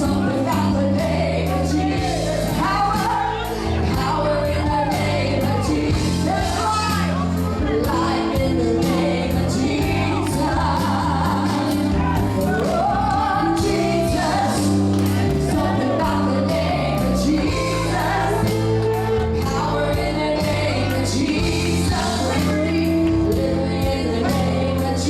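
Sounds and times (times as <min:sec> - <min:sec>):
bass notes: 0:00.0 - 0:25.0
voices singing gospel: 0:00.0 - 0:25.0.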